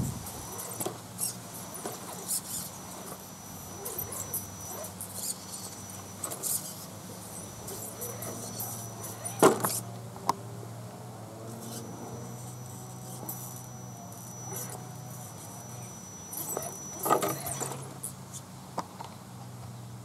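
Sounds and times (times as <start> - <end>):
rc car motor whine: 0.0 - 19.1.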